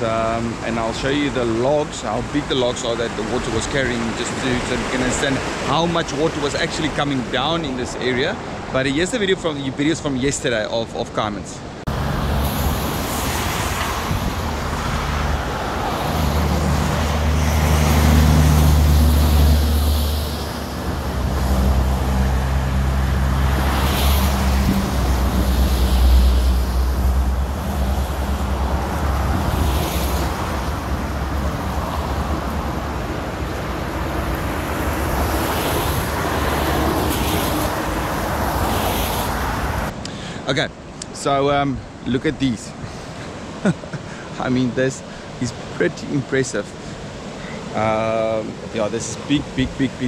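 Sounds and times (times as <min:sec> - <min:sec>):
river water roaring: 0:00.0 - 0:50.0.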